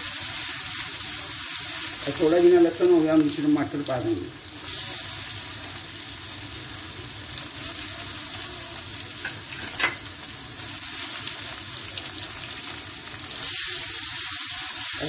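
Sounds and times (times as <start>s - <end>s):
tomato sizzling in hot oil: 0.0s - 15.0s.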